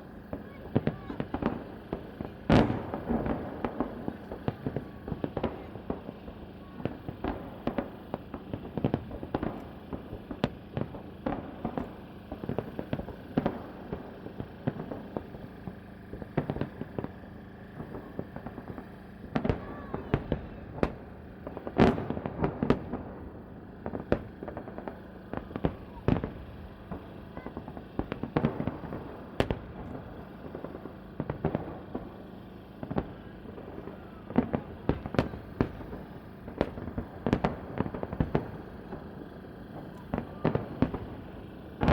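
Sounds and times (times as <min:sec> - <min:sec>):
fireworks booming and cracking: 0:00.0 - 0:41.9.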